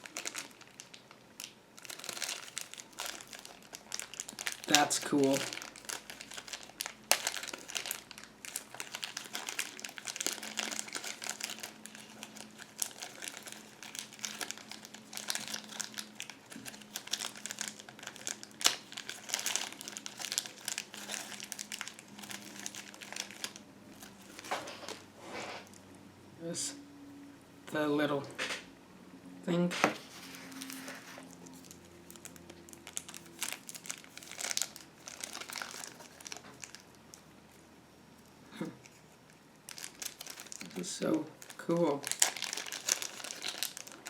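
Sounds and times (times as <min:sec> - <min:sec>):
plastic packaging crinkling: 0:00.0 - 0:25.8, 0:29.8 - 0:37.6, 0:38.8 - 0:44.0.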